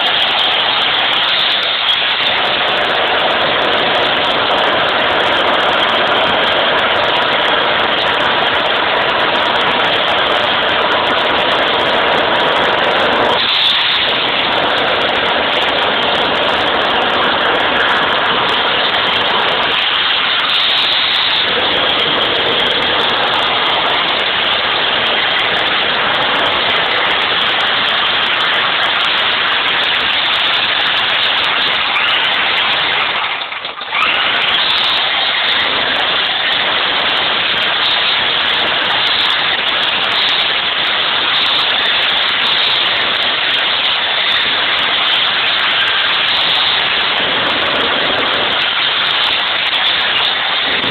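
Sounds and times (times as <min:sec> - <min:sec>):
demolition hammer chiselling rock: 0:00.0 - 0:50.9.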